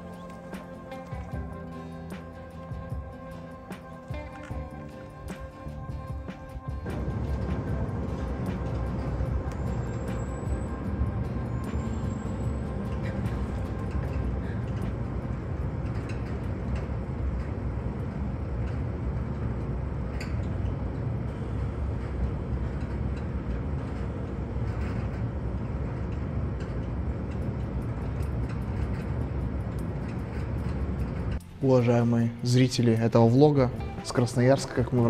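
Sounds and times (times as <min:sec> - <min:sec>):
faint hum: 0:00.0 - 0:32.4
low background rumble: 0:00.0 - 0:35.0.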